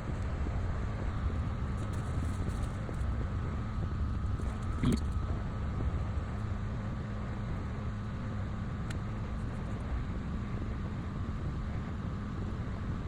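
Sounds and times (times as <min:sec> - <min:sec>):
faint high whine: 0:00.0 - 0:13.0
low background hum: 0:00.0 - 0:13.0.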